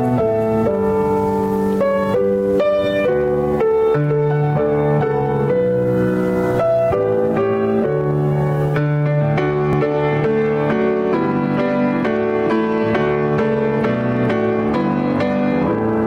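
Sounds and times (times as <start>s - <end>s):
slow keyboard chords: 0.0s - 16.0s.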